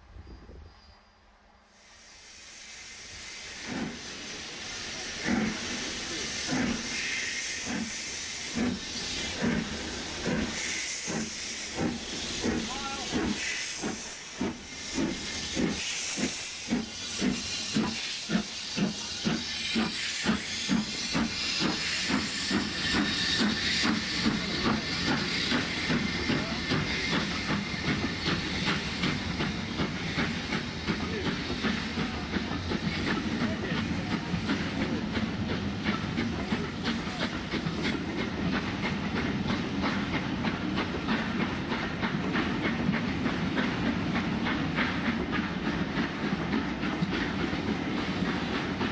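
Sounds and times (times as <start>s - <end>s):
steady hiss of steam: 0.0s - 48.9s
steam locomotive exhaust chuffs: 1.6s - 48.9s.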